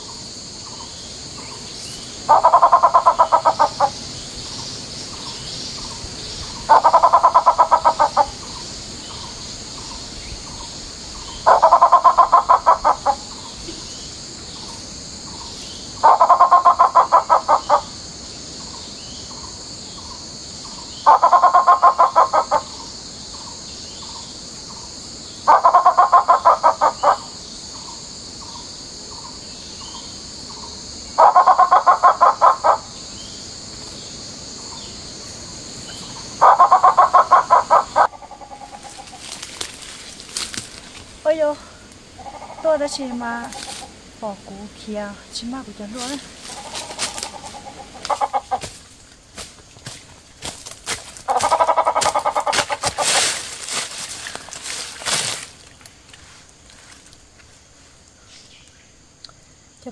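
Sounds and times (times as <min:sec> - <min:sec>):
pheasant pulsed cackle call: 0:00.0 - 0:18.0, 0:18.6 - 0:33.5, 0:34.6 - 0:40.6, 0:41.3 - 0:44.1, 0:46.0 - 0:48.8, 0:51.2 - 0:55.1
steady high hiss: 0:00.0 - 0:59.9.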